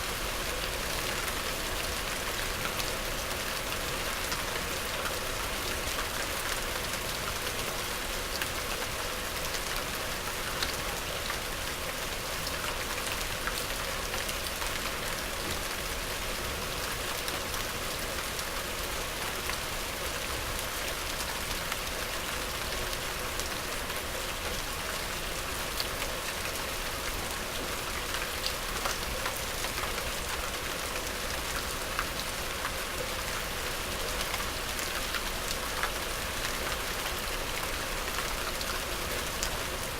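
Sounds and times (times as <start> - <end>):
rain falling: 0.0 - 39.9
raindrops ticking on a surface: 0.3 - 39.9.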